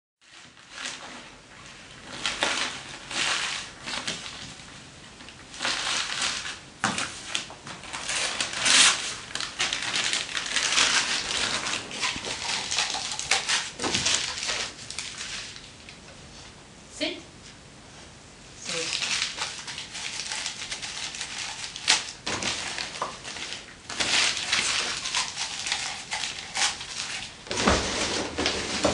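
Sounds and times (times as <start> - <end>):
newspaper crumpling: 0.2 - 16.0, 18.7 - 28.9.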